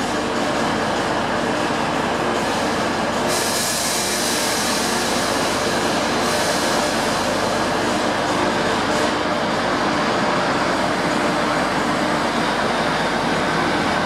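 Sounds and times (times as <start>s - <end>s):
standing trains humming: 0.0s - 14.0s.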